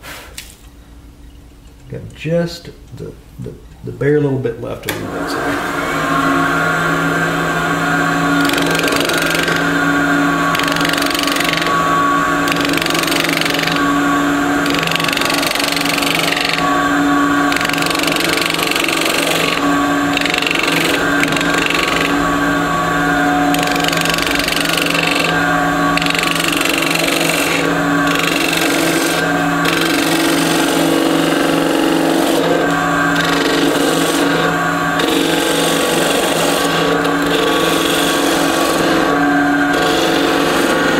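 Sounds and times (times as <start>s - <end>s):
turning tool cutting wood: 4.9s - 40.9s
wood lathe humming: 4.9s - 40.9s.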